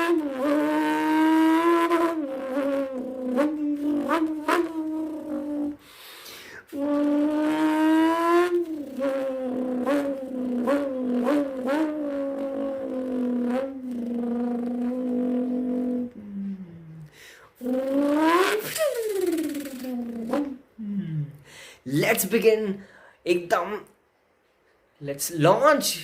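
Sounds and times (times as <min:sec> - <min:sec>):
person imitating engine with mouth: 0:00.0 - 0:05.9, 0:06.5 - 0:21.4.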